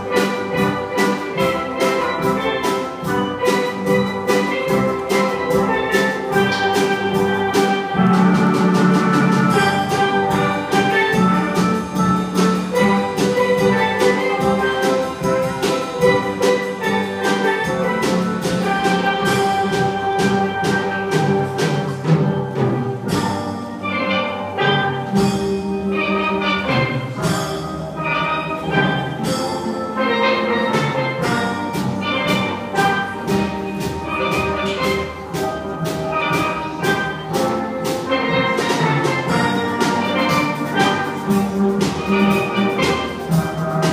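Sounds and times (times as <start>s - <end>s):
percussion: 0.0s - 43.9s
steel drum band playing: 0.0s - 43.9s.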